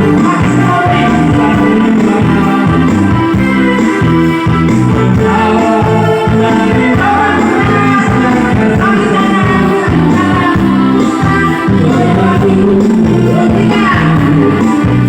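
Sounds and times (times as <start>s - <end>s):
loud music through sound system: 0.0s - 15.0s
person singing: 0.0s - 15.0s
steady bass line: 0.0s - 15.0s.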